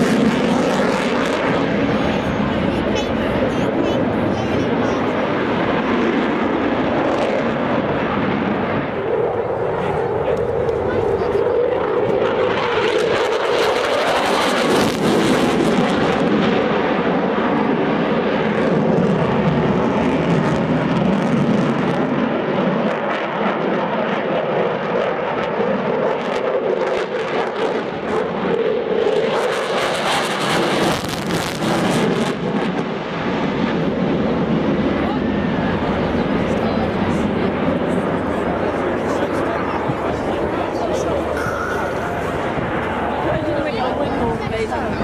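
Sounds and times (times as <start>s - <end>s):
jet engine roar with crackle: 0.0s - 45.0s.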